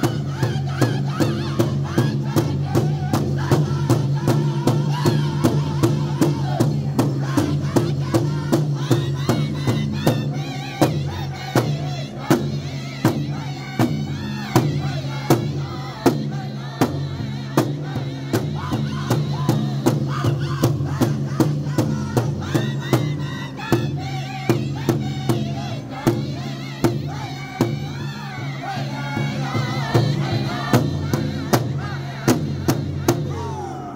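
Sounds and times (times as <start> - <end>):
group singing in high voices: 0.0 - 33.9
large drum beaten steadily: 0.0 - 33.9.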